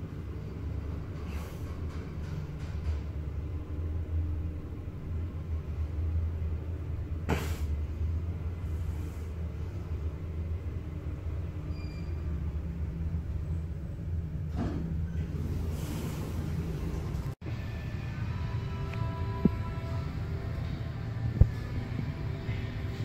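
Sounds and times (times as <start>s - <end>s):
lift humming and rumbling: 0.0s - 23.0s.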